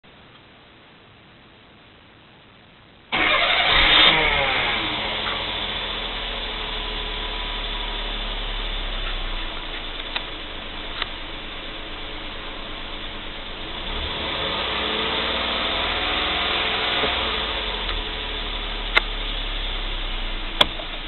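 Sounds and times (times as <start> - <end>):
car engine starting and idling: 3.1 - 21.0.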